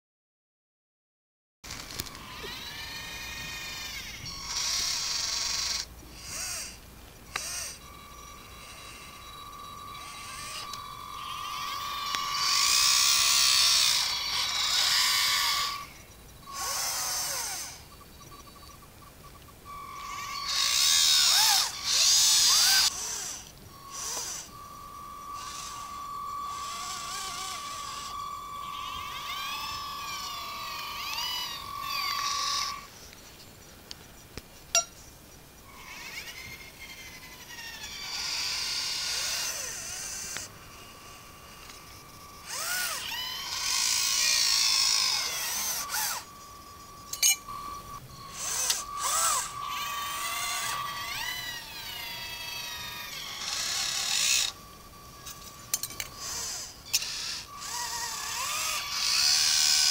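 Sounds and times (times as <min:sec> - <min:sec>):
small electric motors whining: 0:01.7 - 0:59.9
steady high hum: 0:01.7 - 0:59.9.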